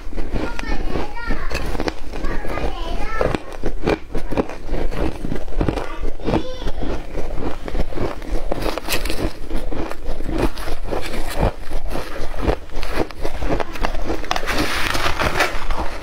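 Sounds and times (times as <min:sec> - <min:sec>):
ice being chewed: 0:00.0 - 0:16.0
metal spoon scooping ice: 0:00.0 - 0:16.0.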